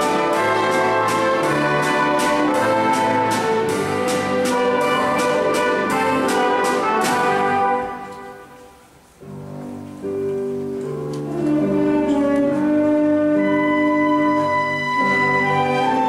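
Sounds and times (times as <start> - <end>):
brass: 0.0 - 9.0, 11.1 - 16.0
orchestra playing: 0.0 - 16.0.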